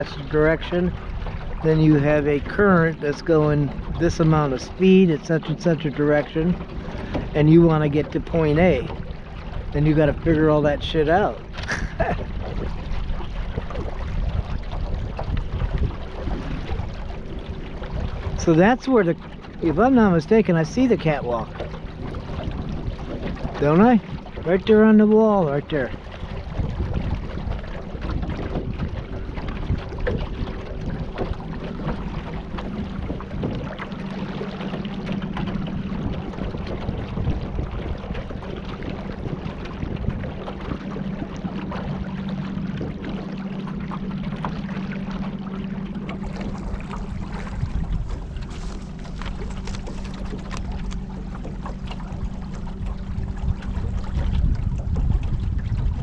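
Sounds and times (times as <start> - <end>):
boat motor droning: 0.0 - 56.0
water noise: 0.0 - 56.0
wind: 0.0 - 56.0.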